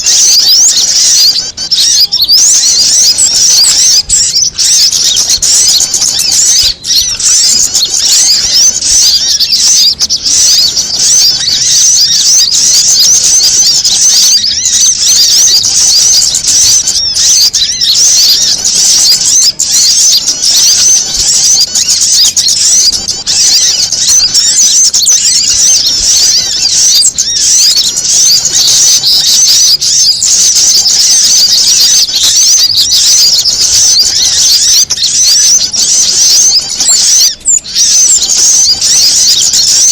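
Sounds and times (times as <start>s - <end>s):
small songbirds twittering: 0.0s - 39.9s.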